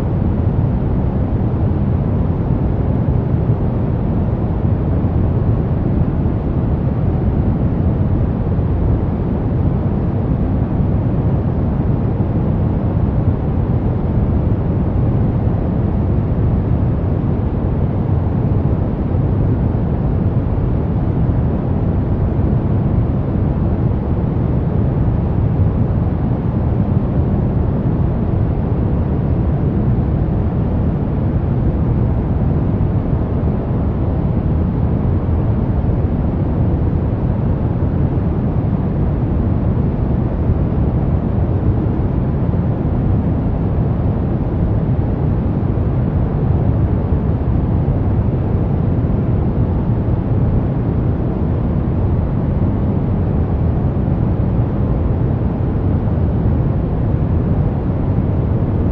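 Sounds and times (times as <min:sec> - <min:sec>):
brown noise: 0:00.0 - 0:58.9.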